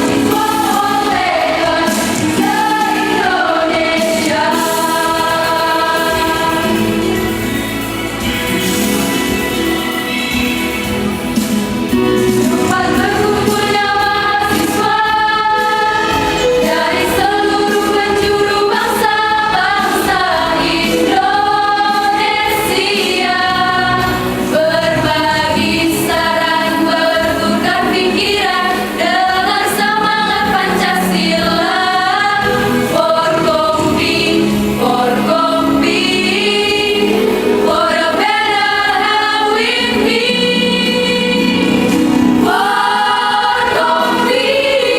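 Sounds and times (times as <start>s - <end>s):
choir singing: 0.0s - 44.9s.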